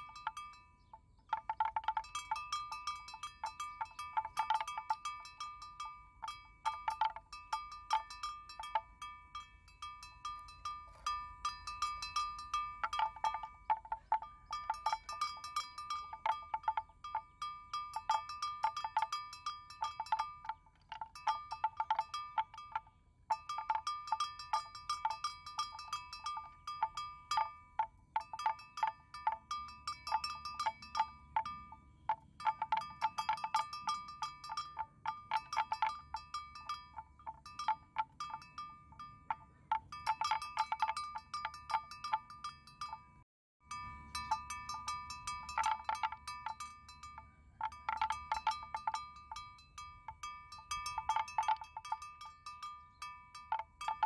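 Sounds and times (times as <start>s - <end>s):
metal bell clanking: 0.0s - 54.0s.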